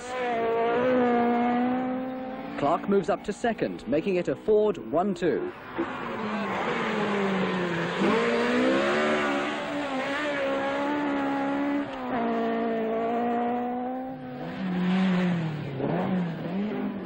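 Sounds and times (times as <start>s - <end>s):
rally car engine at high revs: 0.0s - 3.4s, 5.6s - 17.0s.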